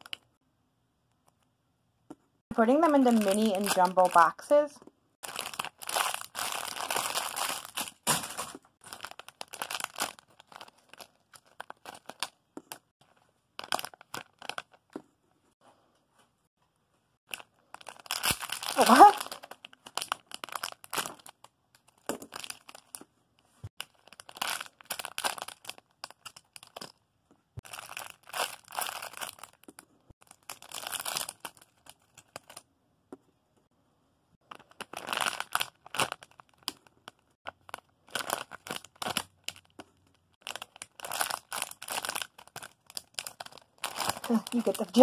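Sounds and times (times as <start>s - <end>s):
plastic crinkling and rustling: 2.6s - 4.5s, 5.2s - 15.0s, 17.3s - 27.0s, 27.6s - 32.6s, 34.4s - 45.0s.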